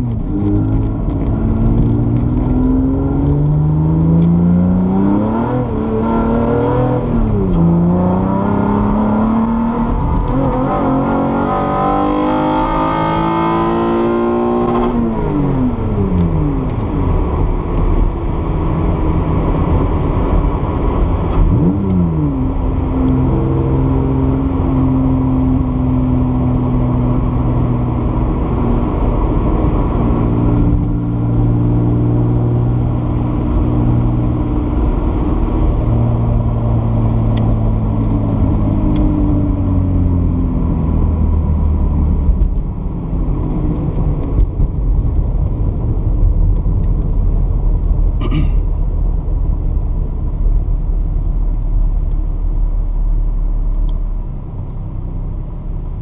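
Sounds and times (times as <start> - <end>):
car engine decelerating: 0.0 - 56.0
tyre and road noise: 0.0 - 56.0.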